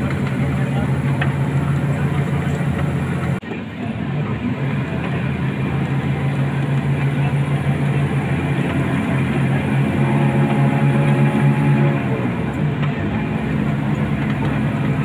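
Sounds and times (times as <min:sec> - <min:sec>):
bus engine hum: 0:00.0 - 0:15.0
tyre and road rumble: 0:00.0 - 0:15.0.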